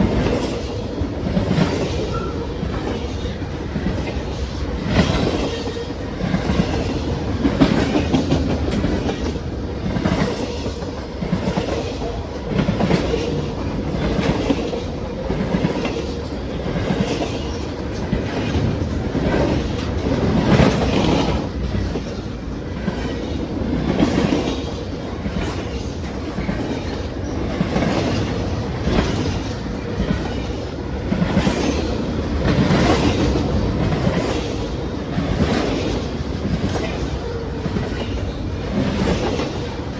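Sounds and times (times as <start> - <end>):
freight train rumbling past: 0.0 - 39.9
wheels clacking over rail joints: 0.0 - 39.9.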